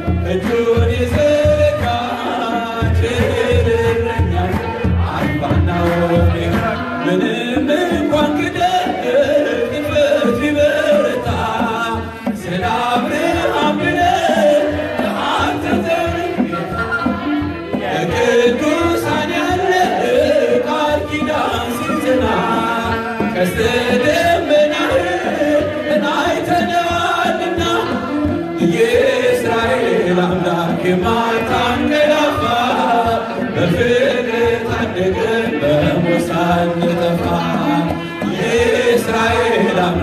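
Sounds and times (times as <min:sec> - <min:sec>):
church drum beat: 0:00.0 - 0:40.0
group singing a hymn: 0:00.0 - 0:40.0.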